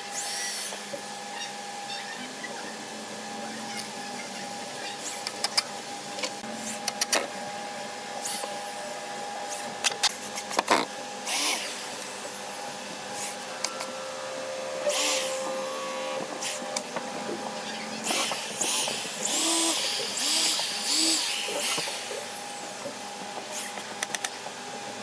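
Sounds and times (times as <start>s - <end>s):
small machine humming: 0.0s - 25.0s.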